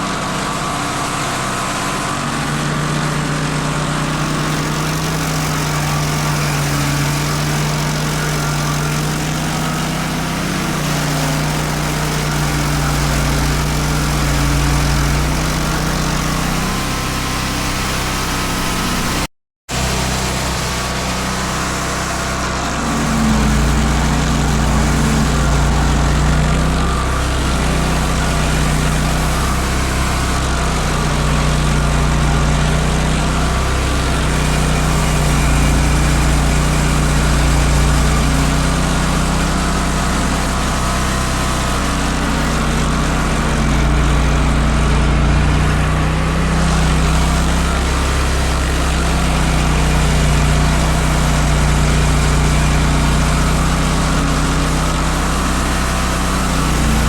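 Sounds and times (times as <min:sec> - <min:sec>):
cutter wheel grinding stump: 0:00.0 - 0:57.0
stump grinder engine: 0:00.0 - 0:57.0.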